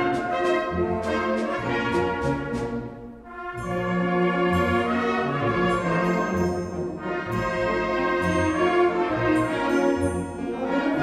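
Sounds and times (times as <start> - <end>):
orchestral music with brass: 0.0 - 11.0.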